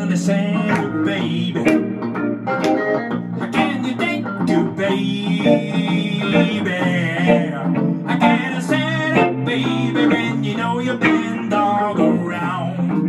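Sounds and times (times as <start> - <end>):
blues on two guitars: 0.0 - 13.0.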